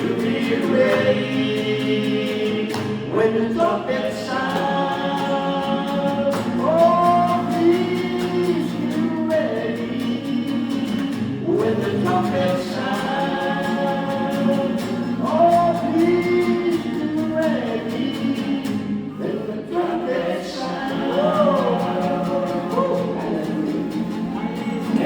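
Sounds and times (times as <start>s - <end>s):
gospel choir singing: 0.0s - 25.0s.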